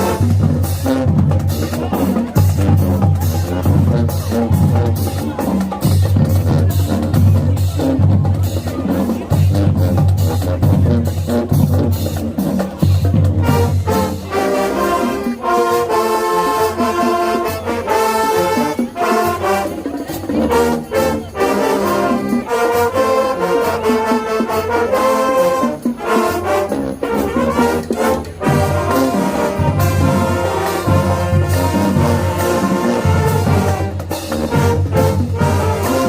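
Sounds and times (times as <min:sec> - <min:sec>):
brass chords: 0:00.0 - 0:36.0
marching drums: 0:00.0 - 0:36.0.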